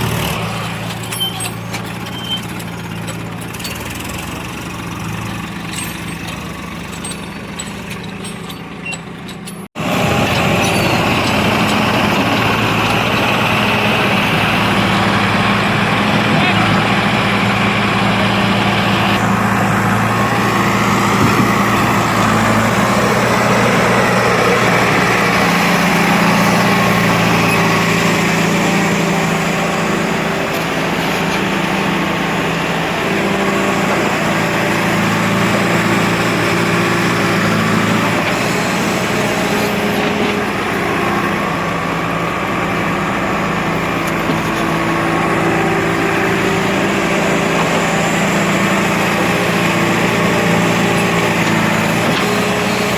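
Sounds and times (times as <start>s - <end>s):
tractor engine revving: 0.0s - 52.9s.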